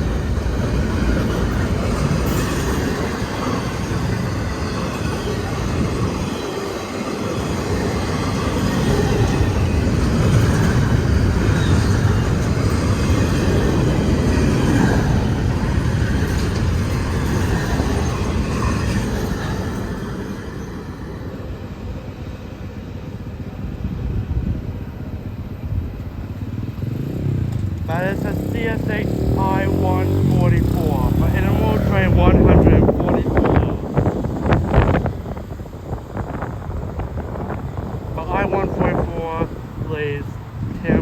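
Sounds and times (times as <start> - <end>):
freight train cars rumbling past: 0.0 - 41.0.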